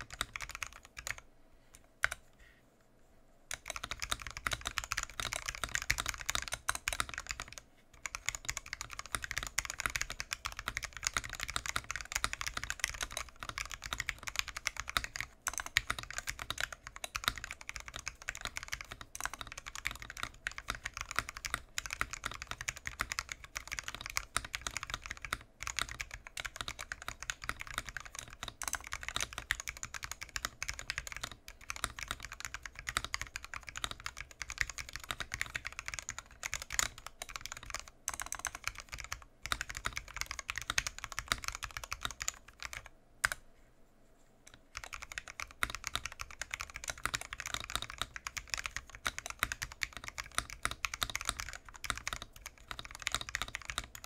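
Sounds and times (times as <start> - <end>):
fast typing on mechanical keyboard: 0.0 - 1.2, 3.5 - 43.4, 44.5 - 54.0.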